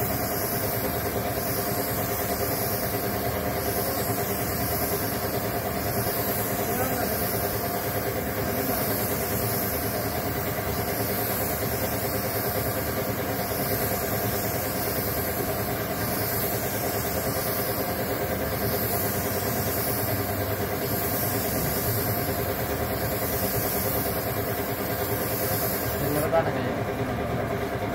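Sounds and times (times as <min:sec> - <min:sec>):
paint spray gun hissing: 0:00.0 - 0:26.6
compressed air machine hum: 0:00.0 - 0:27.9.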